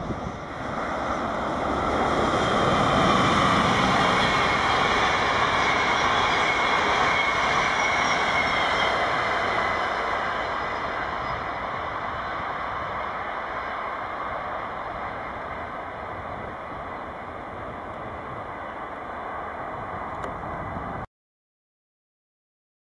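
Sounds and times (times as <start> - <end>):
train passing: 0.0 - 21.0
wheels whining on rails: 0.0 - 21.1.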